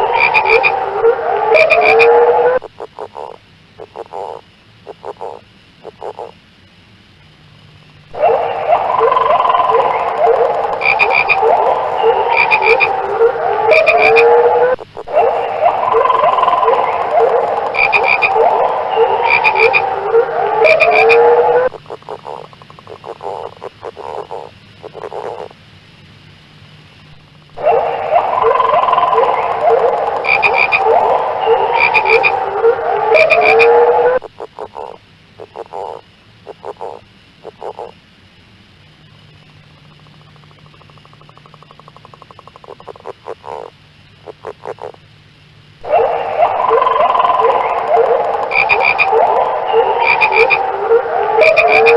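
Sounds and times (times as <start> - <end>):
chorus of frogs calling: 0.0 - 6.4, 7.6 - 25.6, 27.3 - 38.1, 38.9 - 45.1, 45.8 - 51.9
rapid high-pitched frog clicking: 0.0 - 6.5, 7.3 - 38.1, 38.8 - 51.9.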